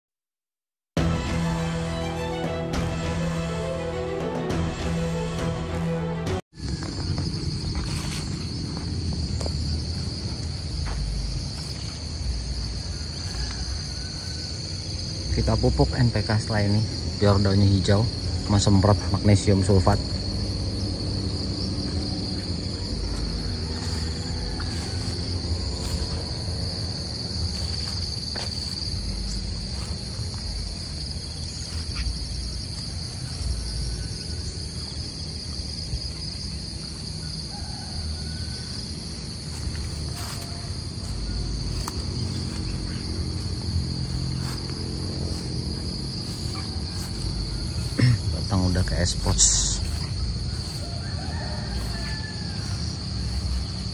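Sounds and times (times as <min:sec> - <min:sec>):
insects chirring: 0:06.6 - 0:53.9.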